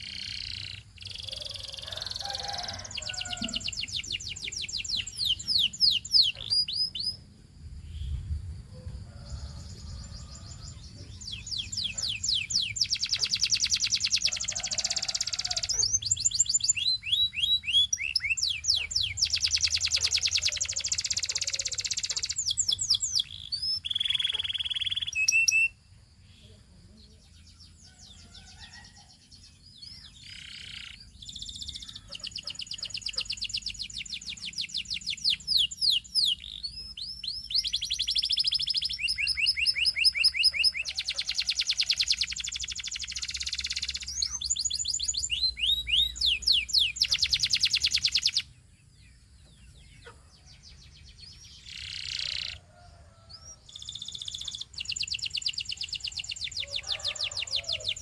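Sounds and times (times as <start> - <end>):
canary singing trills: 0.0 - 8.4, 9.1 - 58.0.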